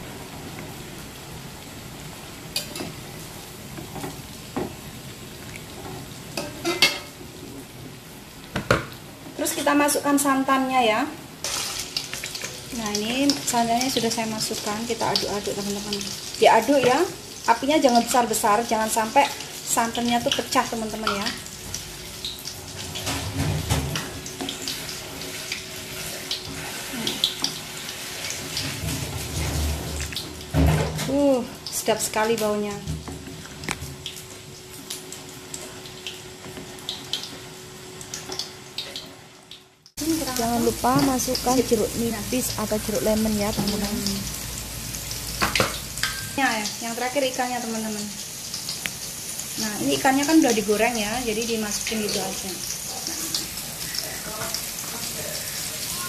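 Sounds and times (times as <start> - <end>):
steady hiss from pot: 0.0 - 56.0.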